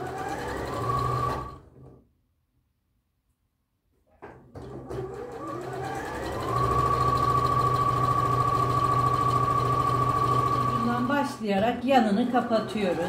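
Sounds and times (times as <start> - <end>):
sewing machine stitching: 0.0 - 2.0, 4.3 - 13.0.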